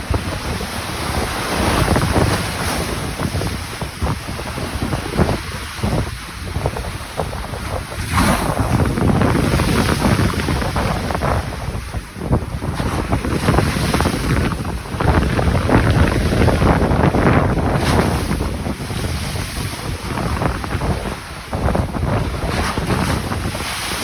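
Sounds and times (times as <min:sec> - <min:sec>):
sea waves crashing on concrete: 0:00.0 - 0:24.0
wind buffeting microphone: 0:00.0 - 0:24.0.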